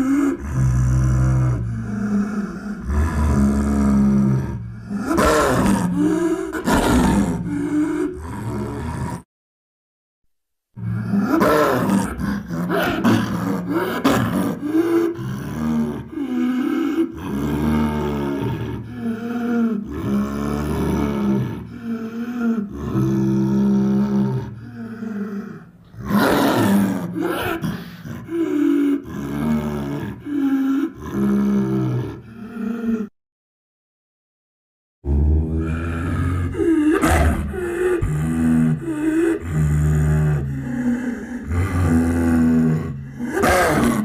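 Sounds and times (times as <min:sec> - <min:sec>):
cartoon creature growls: 0:00.0 - 0:09.3, 0:10.8 - 0:33.1, 0:35.0 - 0:44.0.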